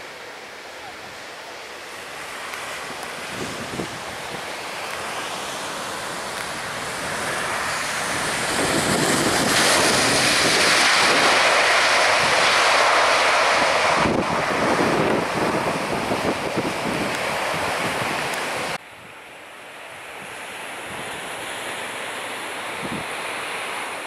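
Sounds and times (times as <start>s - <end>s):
airliner jet engines landing: 0.0s - 24.0s.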